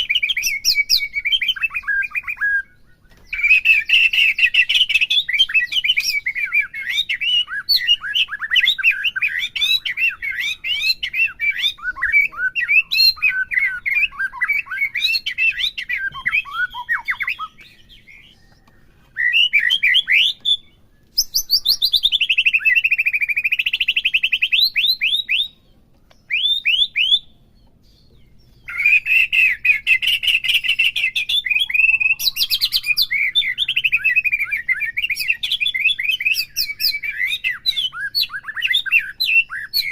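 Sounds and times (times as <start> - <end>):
songbird chirps and whistles: 0.0 - 39.9.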